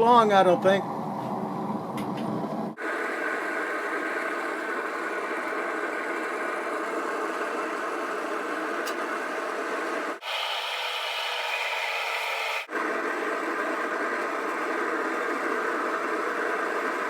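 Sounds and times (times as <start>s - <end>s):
propane burner hissing: 0.0s - 17.0s.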